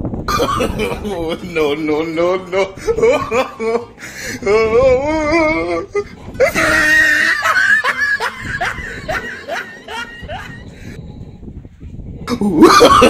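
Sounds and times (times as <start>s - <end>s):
wavering wailing voice: 0.8s - 11.3s.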